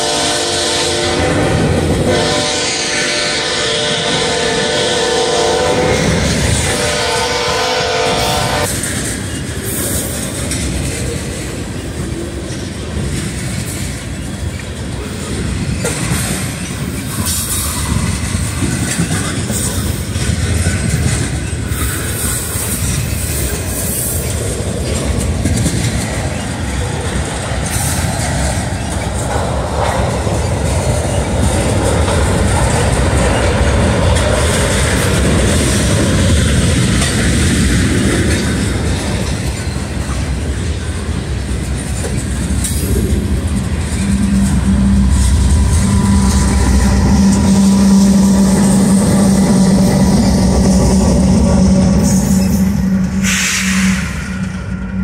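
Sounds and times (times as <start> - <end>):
diesel locomotive engine hum: 0.0 - 55.0
wheels clattering over rail joints: 5.6 - 54.8.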